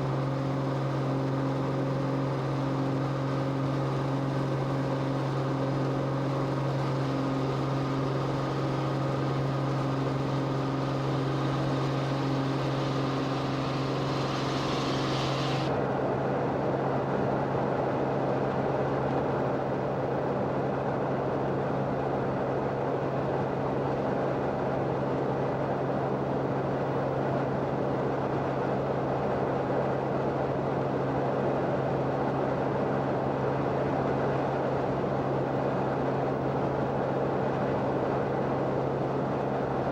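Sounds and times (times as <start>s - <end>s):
aircraft engine drone in cabin: 0.0s - 39.9s.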